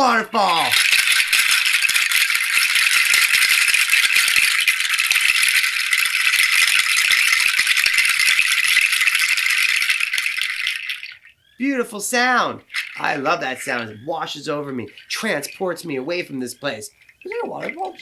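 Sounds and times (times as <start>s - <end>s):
beaded shaker rattling: 0.1s - 11.3s, 12.6s - 18.0s.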